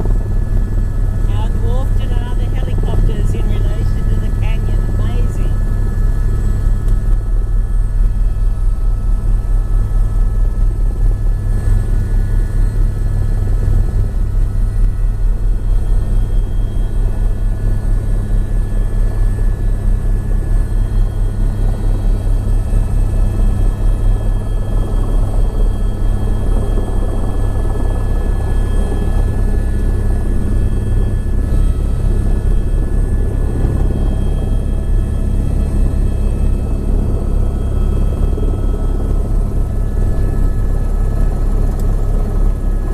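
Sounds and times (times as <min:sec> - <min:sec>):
helicopter rotor beat: 0:00.0 - 0:42.9
steady whining tones: 0:00.0 - 0:42.9.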